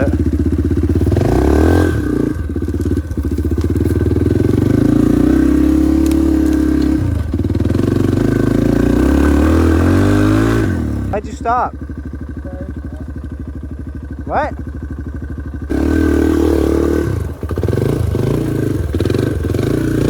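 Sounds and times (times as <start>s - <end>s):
dirt bike engine under throttle: 0.0s - 20.0s.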